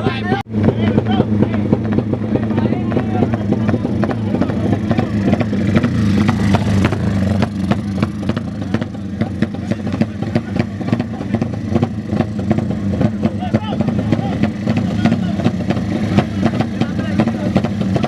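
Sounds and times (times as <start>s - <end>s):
motorcycle engines running: 0.0s - 18.0s.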